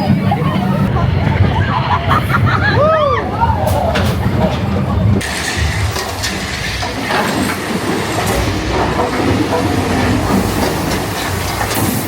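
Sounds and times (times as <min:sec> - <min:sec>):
roller coaster wheels rattling on rails: 0:00.0 - 0:12.0.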